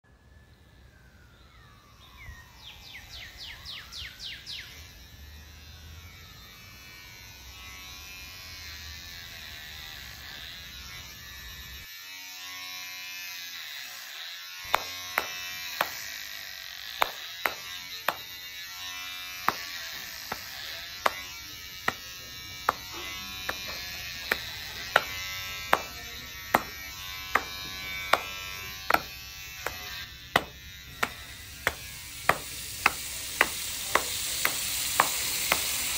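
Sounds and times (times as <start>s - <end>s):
electric hair clippers buzzing: 3.7s - 35.9s.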